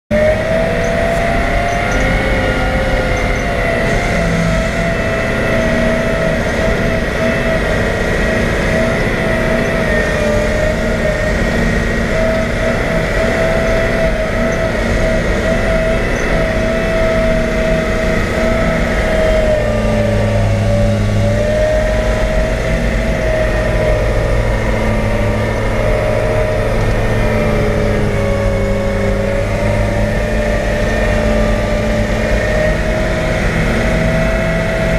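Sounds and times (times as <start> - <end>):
deeper hum: 0.1 - 34.9
diesel truck engine under load: 0.1 - 34.9
steady whine: 0.1 - 34.9.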